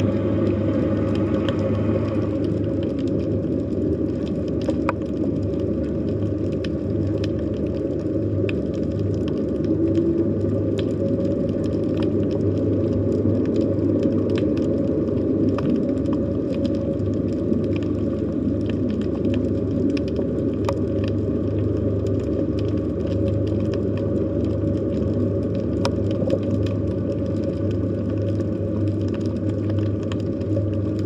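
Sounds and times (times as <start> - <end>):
sharp clicks and crackles: 0.0 - 31.0
underwater low rumble and hum: 0.0 - 31.0.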